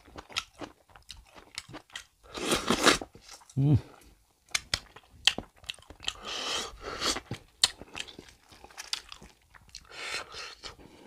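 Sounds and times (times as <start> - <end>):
close chewing with mouth clicks: 0.0 - 10.8.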